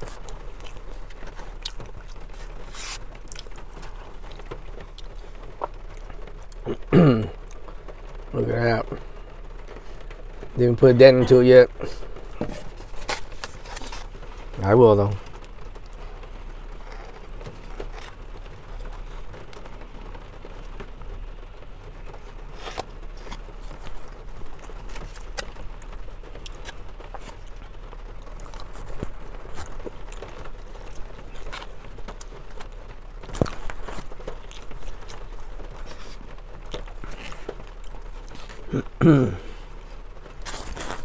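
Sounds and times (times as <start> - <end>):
rain pattering on a car: 0.0 - 41.0.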